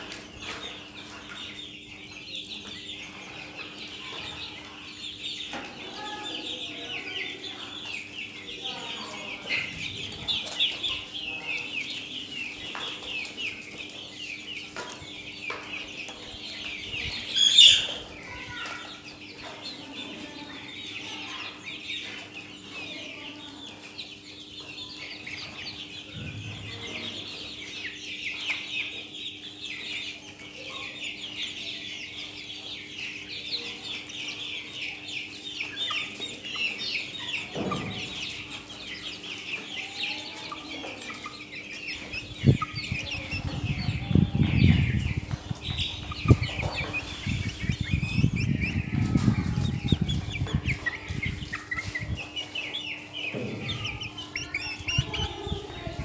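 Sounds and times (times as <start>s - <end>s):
chicks peeping and clucking: 0.0s - 56.0s.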